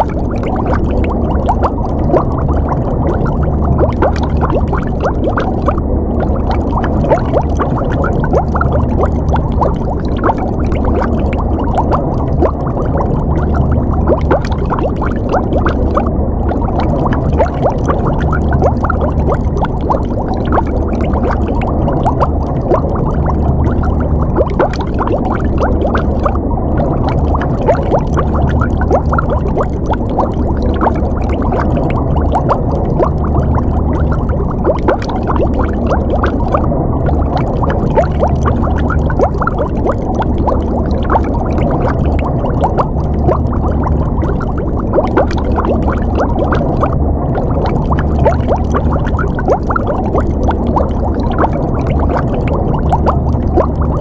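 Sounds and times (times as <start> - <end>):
low steady rumble: 0.0 - 54.0
underwater bubbling and gurgling: 0.0 - 54.0.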